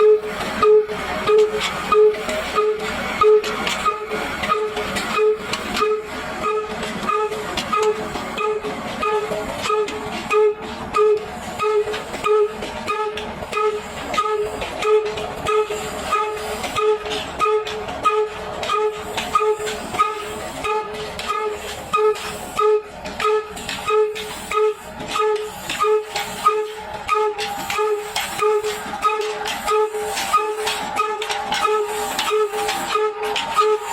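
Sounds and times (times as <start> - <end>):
diesel engine chuffing: 0.0 - 33.9.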